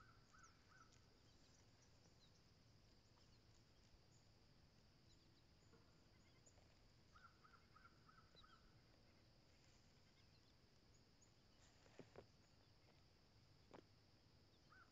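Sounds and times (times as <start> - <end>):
distant bird calls: 0.0 - 13.8, 14.5 - 14.9.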